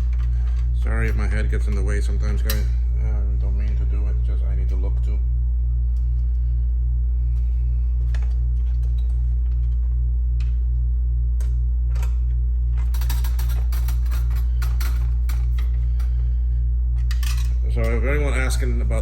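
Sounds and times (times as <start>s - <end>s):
steady low electrical hum: 0.0s - 19.0s.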